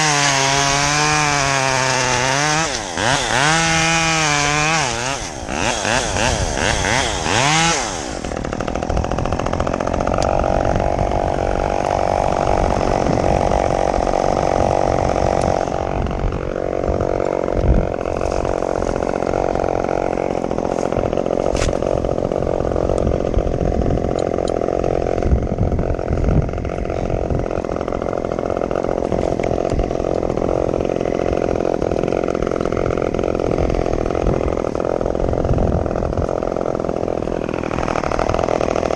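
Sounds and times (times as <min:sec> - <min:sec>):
chainsaw revving and running: 0:00.0 - 0:38.9.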